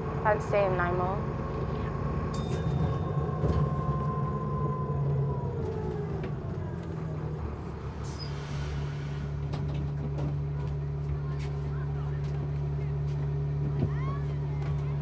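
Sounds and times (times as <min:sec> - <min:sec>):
bus engine low hum: 0:00.0 - 0:15.0.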